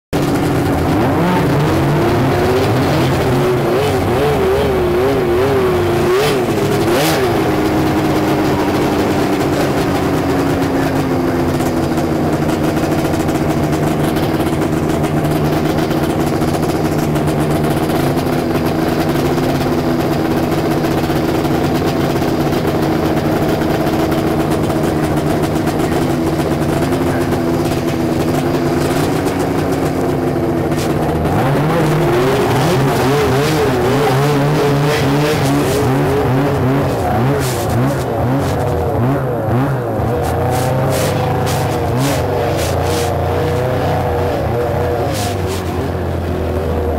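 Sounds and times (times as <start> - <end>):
snowmobile engines running: 0.1 - 46.9.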